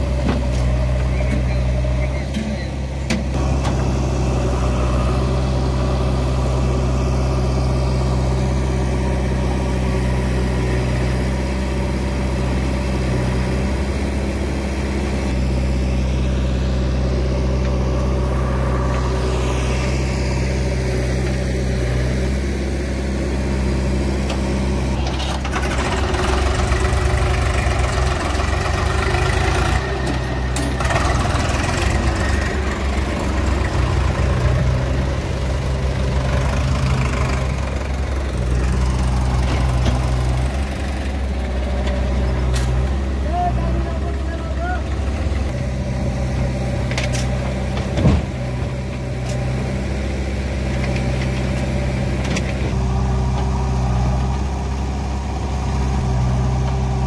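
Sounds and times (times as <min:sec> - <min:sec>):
diesel engines idling: 0:00.0 - 0:57.0.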